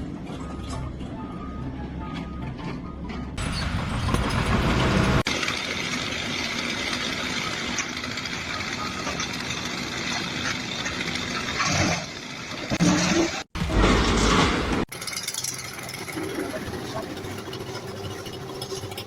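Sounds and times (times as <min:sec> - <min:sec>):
engine or machinery noise: 0:00.0 - 0:19.0.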